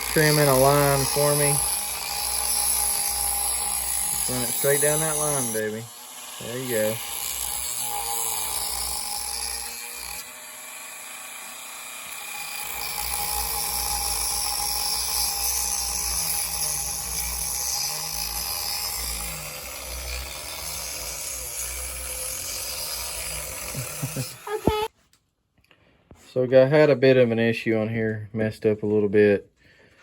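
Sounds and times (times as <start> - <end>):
rotary tool cutting wood: 0.0 - 24.9.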